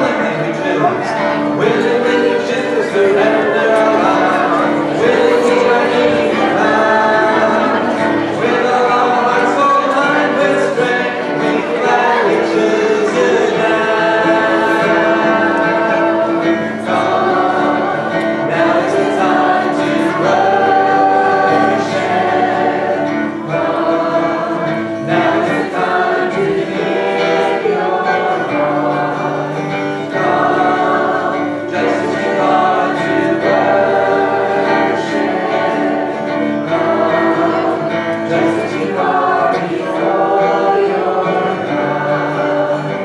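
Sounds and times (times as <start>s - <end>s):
acoustic guitar: 0.0s - 43.0s
choir singing: 0.0s - 43.0s.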